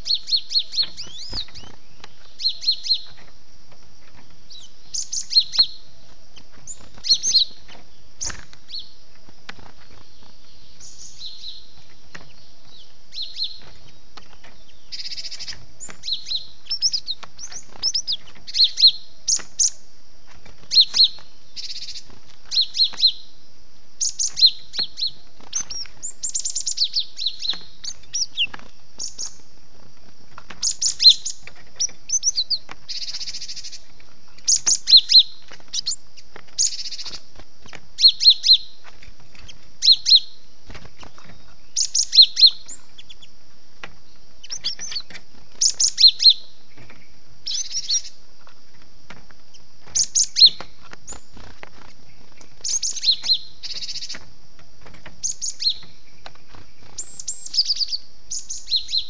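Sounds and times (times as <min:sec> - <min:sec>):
steady high hiss: 0:00.0 - 0:59.0.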